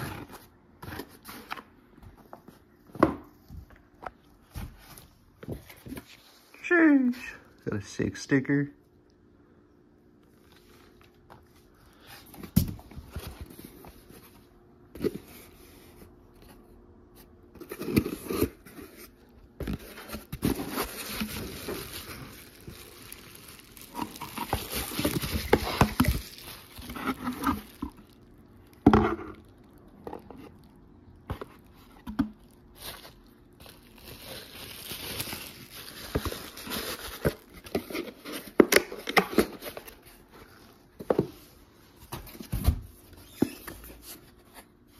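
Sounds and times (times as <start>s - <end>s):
cardboard and plastic rustling: 0.0s - 6.9s, 10.2s - 44.9s.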